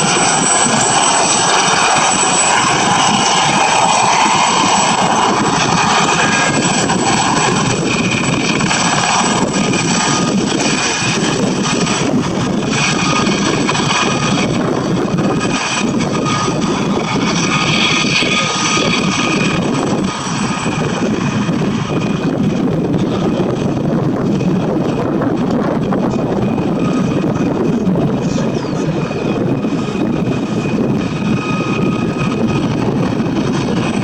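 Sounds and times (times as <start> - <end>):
helicopter flying low past: 0.0 - 34.0.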